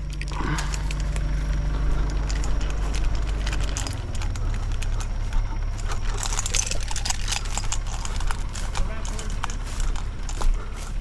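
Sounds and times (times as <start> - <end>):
backhoe engine running: 0.0 - 11.0
light clicks and clatter: 0.0 - 11.0.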